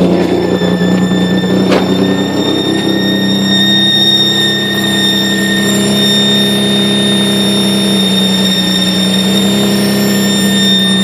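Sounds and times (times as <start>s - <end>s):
car engine running: 0.0s - 10.4s
high-pitched screech: 0.0s - 11.0s.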